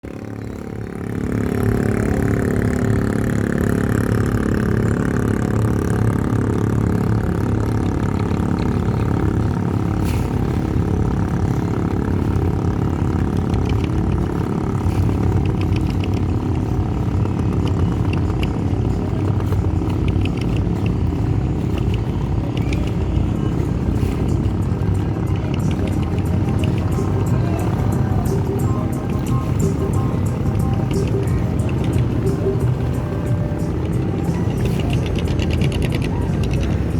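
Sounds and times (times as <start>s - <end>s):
boat engine running: 0.0s - 36.9s.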